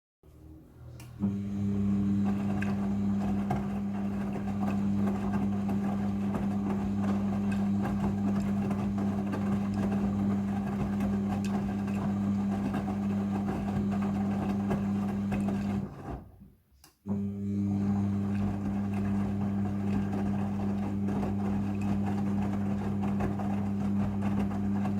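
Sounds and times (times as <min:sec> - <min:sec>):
washing machine pump hum: 0:00.3 - 0:16.5, 0:17.1 - 0:24.9.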